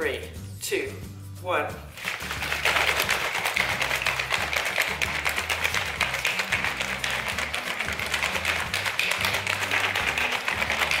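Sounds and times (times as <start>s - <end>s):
background music with bass: 0.0s - 11.0s
shaker cup ball rattling: 1.9s - 11.0s.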